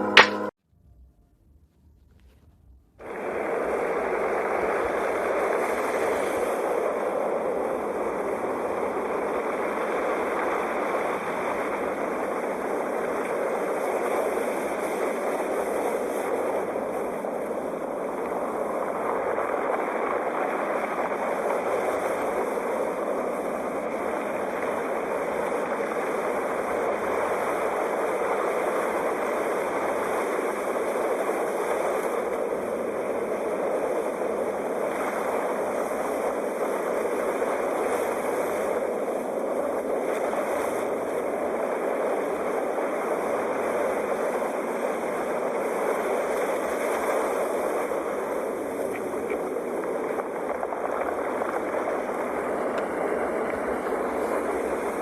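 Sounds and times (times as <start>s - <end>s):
sea waves washing: 3.1s - 55.0s.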